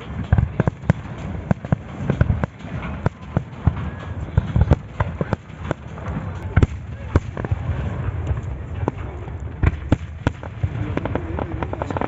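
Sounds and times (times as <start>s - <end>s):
fireworks bangs and pops: 0.0s - 12.0s
low rumble: 0.0s - 12.0s.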